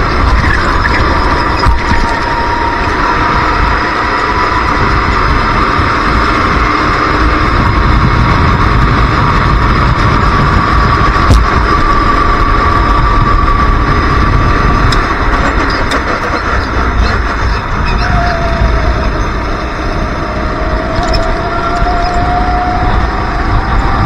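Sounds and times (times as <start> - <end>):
low rumbling wind noise: 0.0 - 24.0
racing kart engine at high revs: 0.0 - 24.0.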